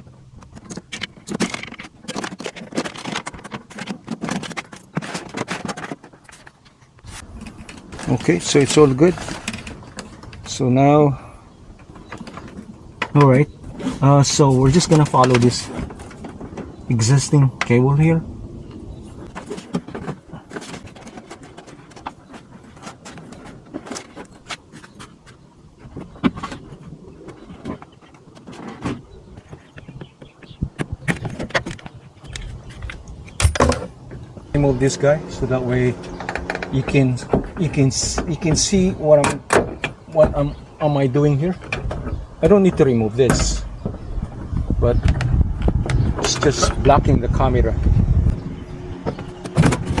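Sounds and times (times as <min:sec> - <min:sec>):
wiring clicks rustles and scrapes: 0:00.0 - 0:48.4.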